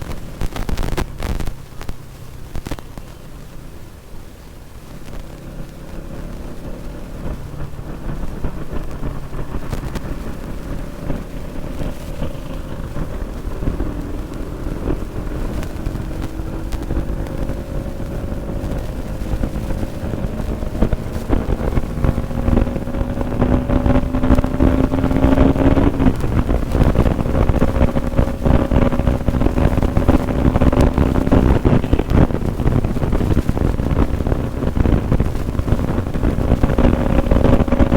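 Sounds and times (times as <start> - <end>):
motorcycle engine at full throttle: 0.0 - 37.9
wind noise on microphone: 0.0 - 37.9.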